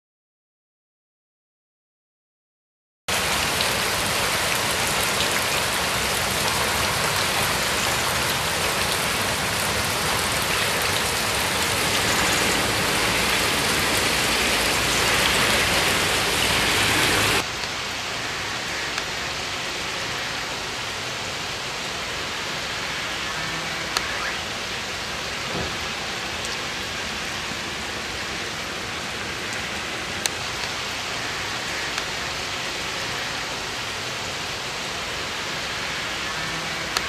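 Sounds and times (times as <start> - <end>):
heavy rain pouring: 3.1 - 37.0.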